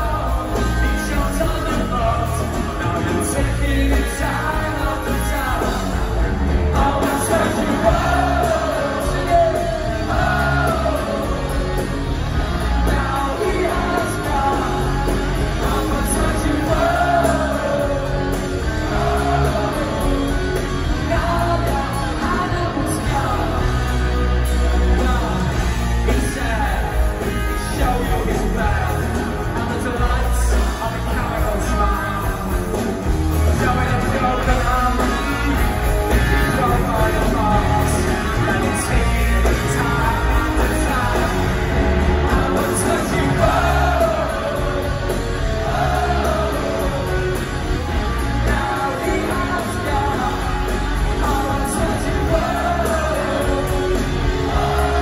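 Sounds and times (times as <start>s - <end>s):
drums: 0.0s - 55.0s
electric guitars: 0.0s - 55.0s
man singing lead: 0.0s - 55.0s.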